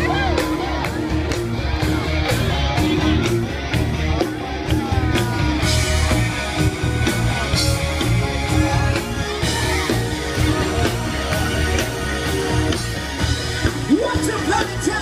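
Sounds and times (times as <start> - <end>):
bass: 0.0 - 15.0
drums: 0.0 - 15.0
electric guitars: 0.0 - 15.0
keyboard: 0.0 - 15.0.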